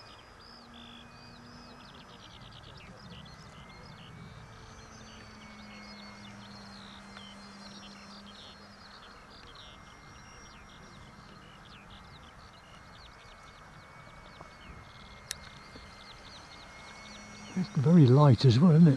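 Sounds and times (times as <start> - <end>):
birds chirping: 0.0 - 18.9
distant model plane motor humming: 0.0 - 18.9
faint wind: 0.0 - 18.9.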